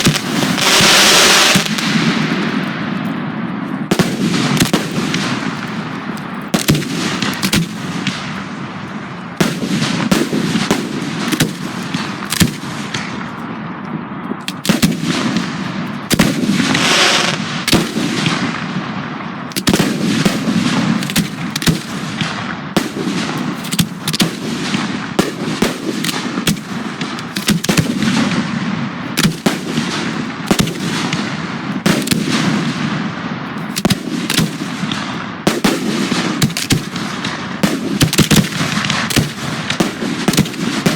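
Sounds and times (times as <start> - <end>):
fireworks bursting with bangs: 0.0 - 40.9
fireworks crackle: 0.0 - 40.9.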